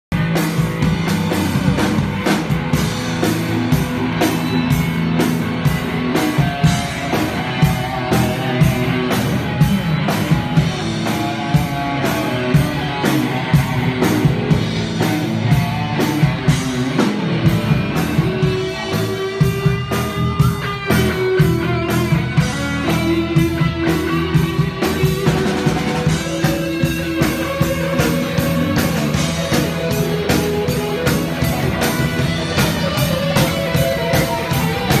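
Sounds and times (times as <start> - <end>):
drum kit beat: 0.1 - 35.0
electric guitar: 0.1 - 35.0
live rock band playing: 0.1 - 35.0.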